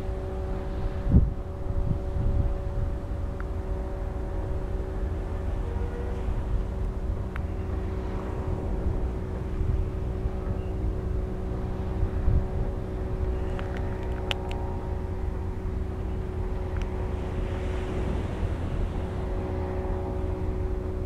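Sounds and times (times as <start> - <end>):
ship engines droning: 0.0 - 21.0.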